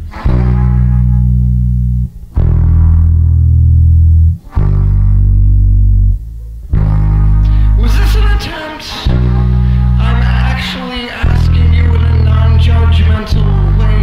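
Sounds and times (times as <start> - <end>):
bass and guitar rock chords: 0.0 - 14.0.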